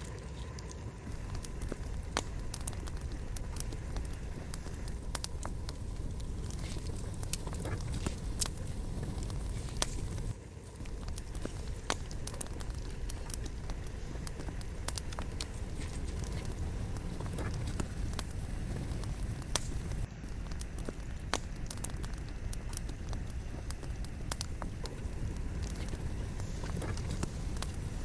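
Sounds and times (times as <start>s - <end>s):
campfire crackling and popping: 0.0s - 28.0s
low rumble of flames: 0.0s - 28.0s.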